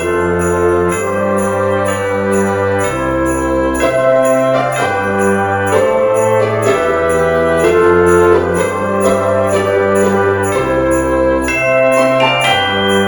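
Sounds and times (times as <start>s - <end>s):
jingle bells shaking: 0.0s - 13.0s
orchestral christmas music: 0.0s - 13.0s.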